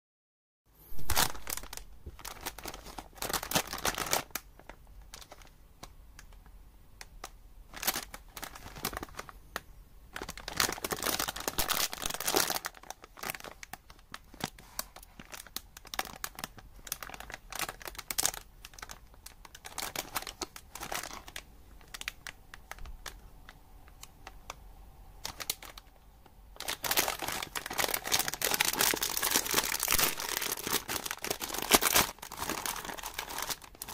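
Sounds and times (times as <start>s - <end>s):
wrapper tearing and rustling: 0.9s - 5.5s, 7.7s - 9.3s, 10.2s - 24.4s, 25.2s - 26.0s, 26.6s - 33.9s
plastic wrapper crinkling: 0.9s - 6.4s, 7.0s - 33.9s.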